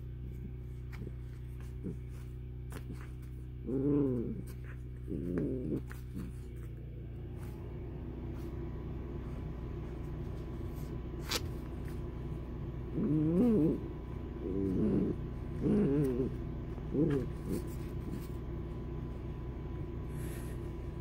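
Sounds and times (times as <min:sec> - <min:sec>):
puppy play growls: 0:00.0 - 0:07.8, 0:10.3 - 0:19.4
steady low hum: 0:00.0 - 0:21.0.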